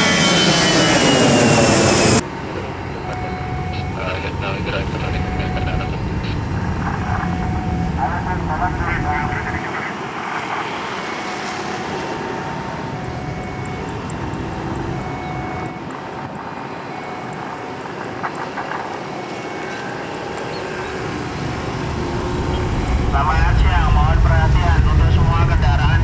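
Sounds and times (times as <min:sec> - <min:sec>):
faint whining tones: 0:00.0 - 0:24.7
jet engines rumbling: 0:00.0 - 0:26.0.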